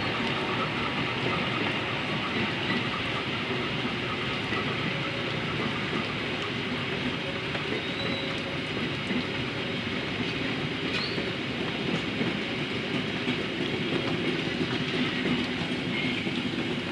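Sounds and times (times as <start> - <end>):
train wheels on rails: 0.0 - 16.9.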